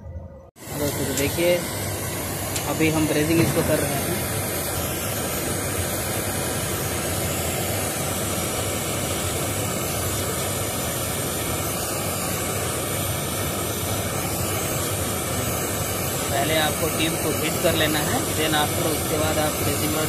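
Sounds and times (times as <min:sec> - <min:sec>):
torch flame hissing: 0:00.5 - 0:20.0.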